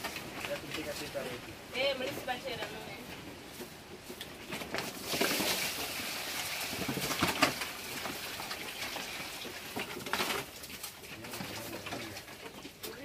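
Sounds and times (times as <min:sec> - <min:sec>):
pigs eating crunching: 0:00.0 - 0:01.6, 0:03.1 - 0:13.0.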